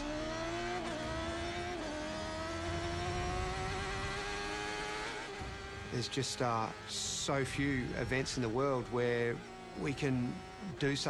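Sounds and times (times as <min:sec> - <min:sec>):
racing motorcycle engine accelerating: 0:00.0 - 0:11.0.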